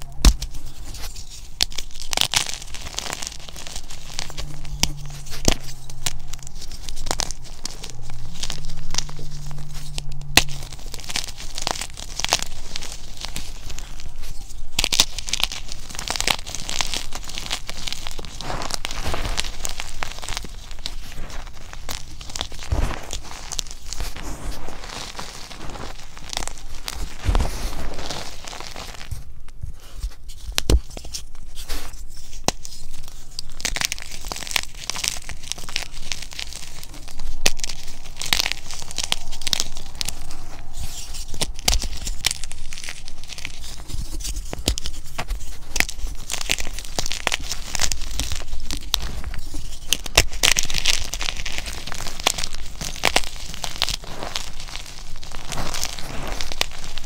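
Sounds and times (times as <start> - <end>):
chalk crunching and snapping: 0.0 - 57.0.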